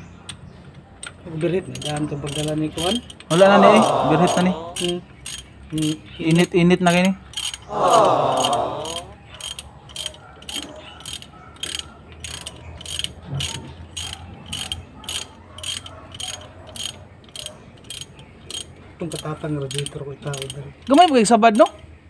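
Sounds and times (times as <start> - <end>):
ratchet wrench clicking: 1.0 - 3.5, 4.3 - 7.7, 8.4 - 21.8.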